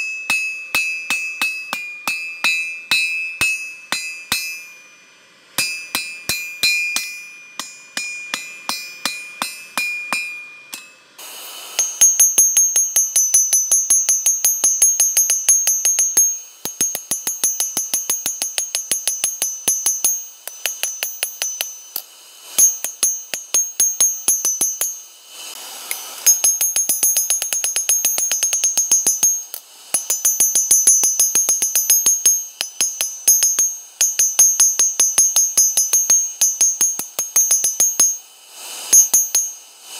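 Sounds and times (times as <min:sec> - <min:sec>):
hammer striking ringing anvil: 0:00.0 - 0:05.0, 0:05.6 - 0:11.0, 0:11.8 - 0:25.2, 0:26.2 - 0:38.3, 0:38.9 - 0:39.6.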